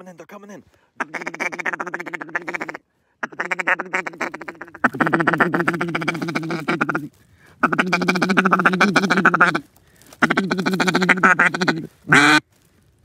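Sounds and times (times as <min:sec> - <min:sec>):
duck call quacks and chatter: 0:01.0 - 0:12.4.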